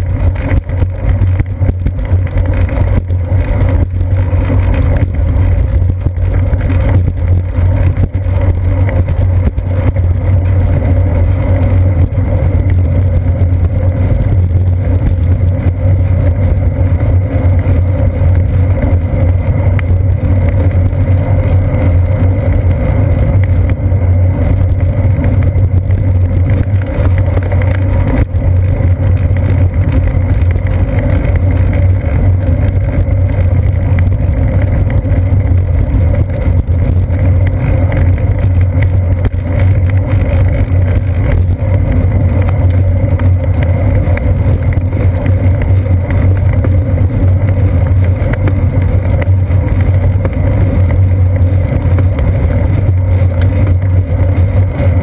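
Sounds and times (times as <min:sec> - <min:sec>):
bicycle tyre drone: 0:00.0 - 0:55.0.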